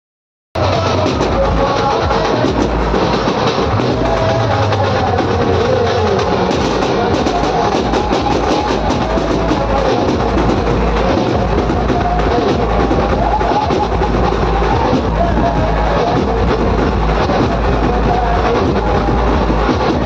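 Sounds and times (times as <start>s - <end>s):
band music over loudspeakers: 0.6s - 20.0s.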